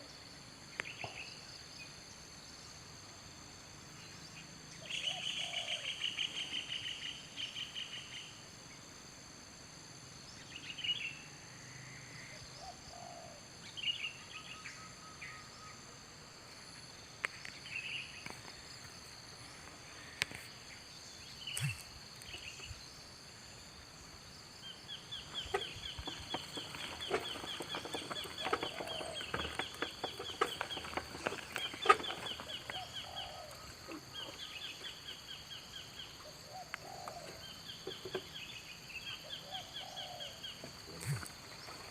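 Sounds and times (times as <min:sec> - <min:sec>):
wild birds calling: 0:03.9 - 0:08.4, 0:10.3 - 0:16.2, 0:17.3 - 0:41.9.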